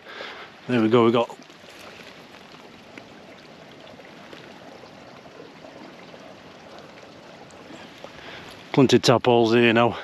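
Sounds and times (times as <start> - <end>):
stream trickling: 0.0 - 10.0.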